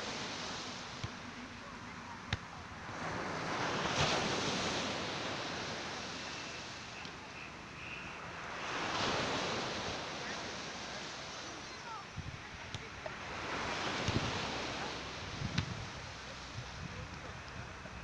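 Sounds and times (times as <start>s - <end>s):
sea surf washing in: 0.0s - 18.0s.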